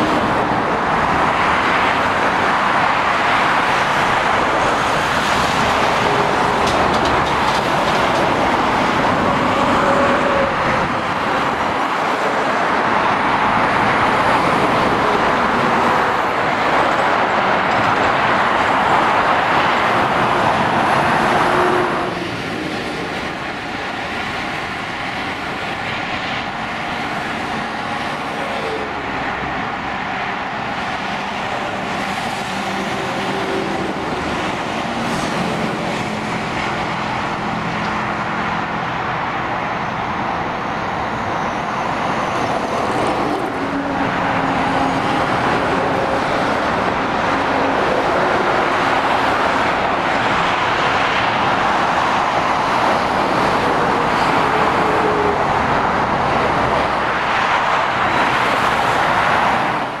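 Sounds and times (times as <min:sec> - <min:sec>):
road traffic passing: 0:00.0 - 1:00.0.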